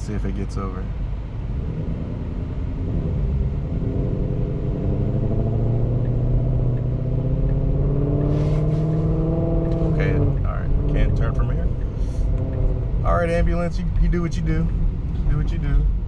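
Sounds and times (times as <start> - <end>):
road rumble inside car: 0.0 - 16.0
engine hum accelerating: 1.0 - 16.0.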